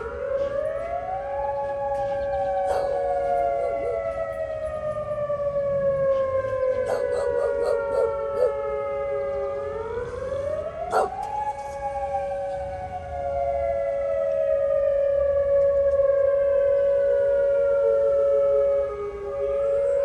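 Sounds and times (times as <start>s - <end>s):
tornado warning sirens wailing: 0.0s - 20.0s.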